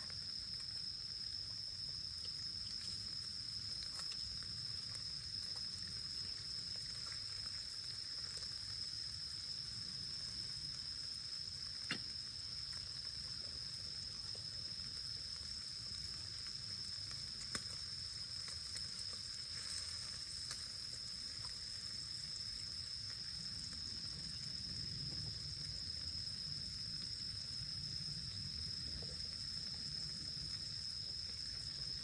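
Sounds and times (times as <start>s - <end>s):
insects trilling: 0.0s - 32.0s
campfire crackles: 0.1s - 32.0s.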